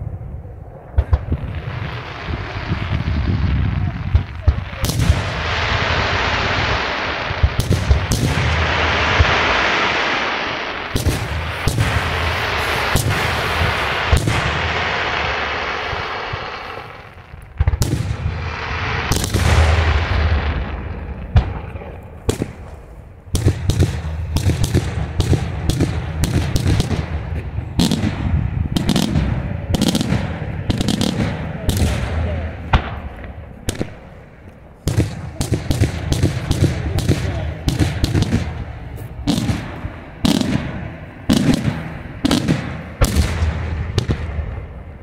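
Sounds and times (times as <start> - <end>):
fireworks bangs: 0.7 - 45.0
fireworks crackling: 1.0 - 45.0.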